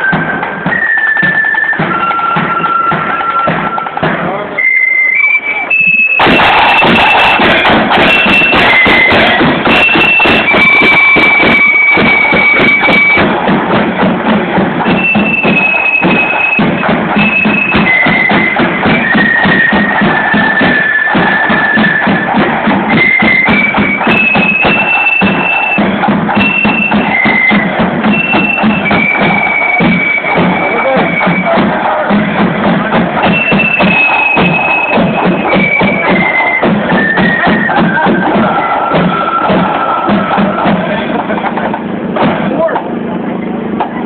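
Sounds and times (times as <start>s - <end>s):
rapid snare drumming: 0.0s - 5.0s, 5.6s - 44.0s
flute melody: 0.0s - 41.4s.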